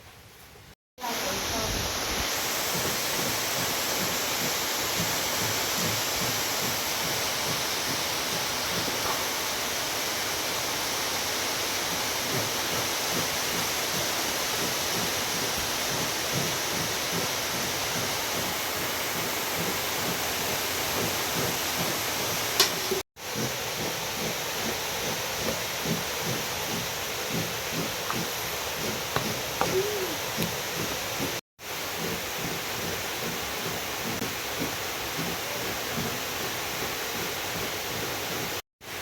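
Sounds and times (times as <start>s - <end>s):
heavy rain hissing: 1.0s - 39.0s.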